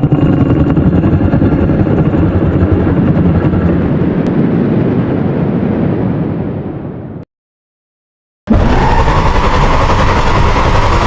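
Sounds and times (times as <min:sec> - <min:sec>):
monster rough rumble: 0:00.0 - 0:07.2, 0:08.5 - 0:11.0.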